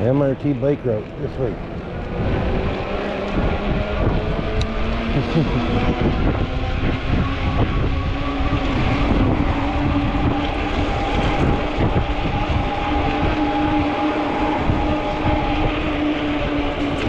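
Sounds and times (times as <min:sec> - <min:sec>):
wind buffeting microphone: 0:00.0 - 0:17.0
electric motor whine: 0:00.4 - 0:17.0.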